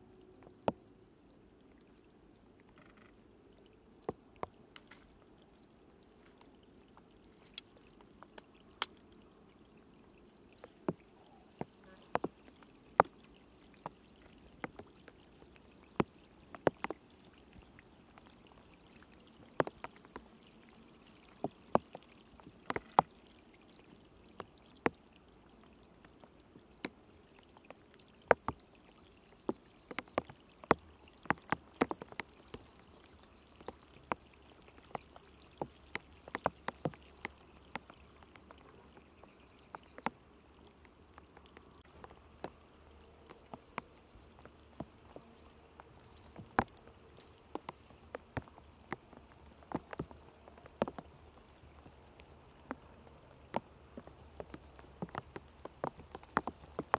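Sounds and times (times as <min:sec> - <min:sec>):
faint steady hiss: 0:00.0 - 0:56.9.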